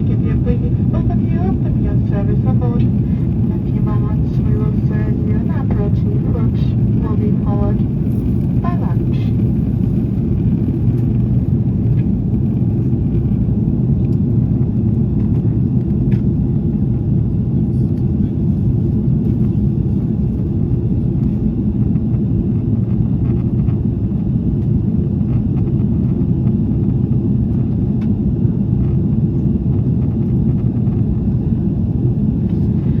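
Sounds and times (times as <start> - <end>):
airplane cabin engine drone: 0.0 - 33.0.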